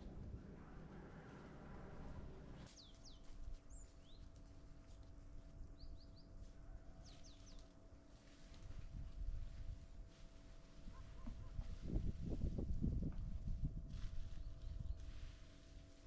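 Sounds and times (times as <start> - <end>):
faint hum and low rumble: 0.0 - 16.0.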